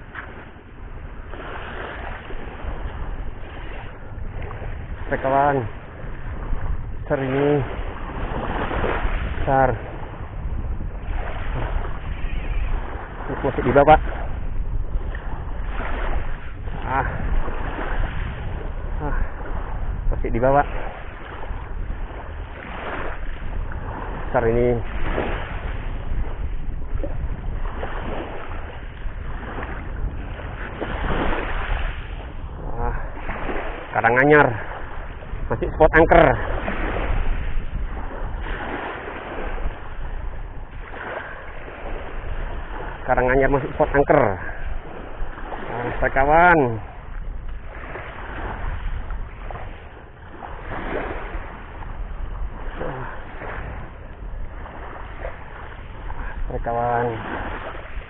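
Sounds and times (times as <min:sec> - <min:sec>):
surf on shore: 0:00.0 - 0:58.0
wind buffeting microphone: 0:00.0 - 0:58.0.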